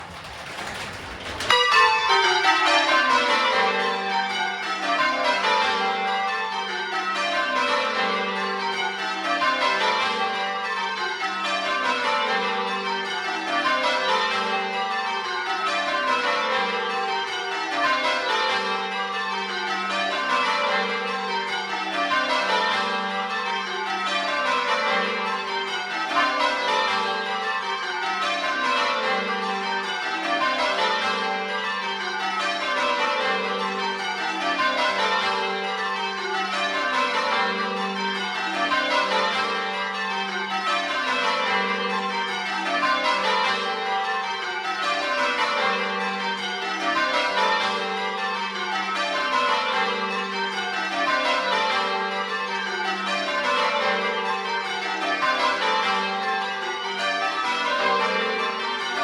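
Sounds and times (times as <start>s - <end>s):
church bells ringing in changes: 1.4s - 59.0s.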